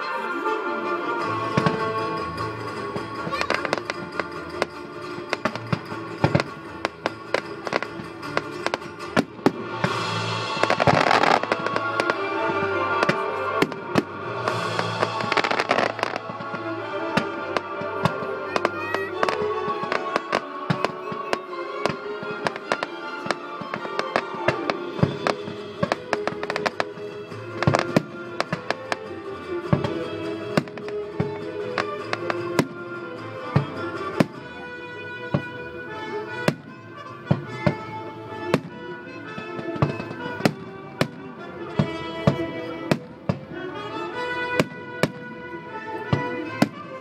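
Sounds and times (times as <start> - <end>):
music: 0.0 - 47.0
fireworks bursting and crackling: 1.4 - 47.0.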